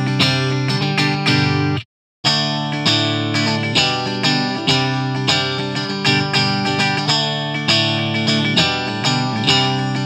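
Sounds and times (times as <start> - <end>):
electric guitar chords ringing: 0.0 - 10.0.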